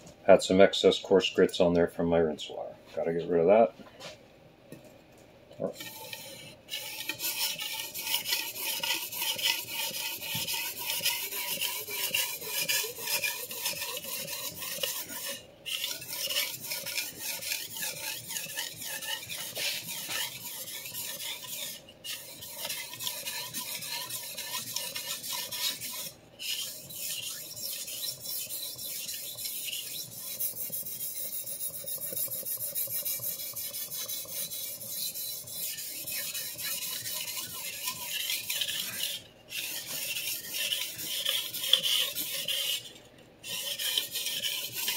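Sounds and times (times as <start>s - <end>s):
knife scraping on wet whetstone: 5.6s - 44.9s.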